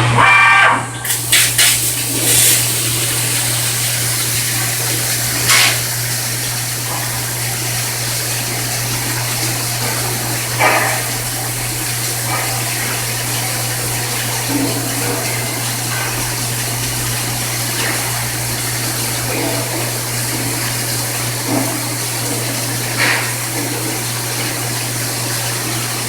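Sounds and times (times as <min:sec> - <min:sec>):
rush of liquid coolant: 0:01.0 - 0:26.0.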